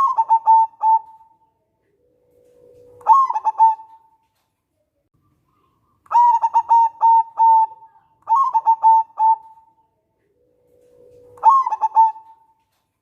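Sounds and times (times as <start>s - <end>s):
dove cooing: 0.0s - 4.1s, 6.1s - 12.6s.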